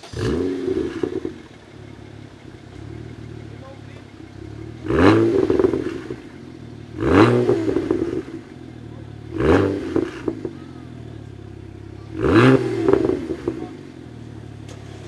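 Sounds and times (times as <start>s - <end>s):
exhaust crackles and pops: 0.0s - 6.4s, 7.0s - 15.0s
car engine revving: 0.0s - 15.0s.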